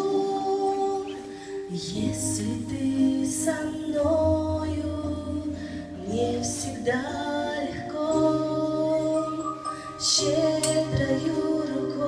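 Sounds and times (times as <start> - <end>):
woman singing long notes: 0.0 - 12.0.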